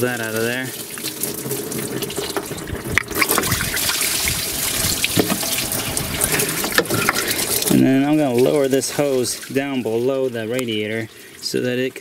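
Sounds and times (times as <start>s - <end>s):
coolant splashing into bucket: 0.0s - 12.0s.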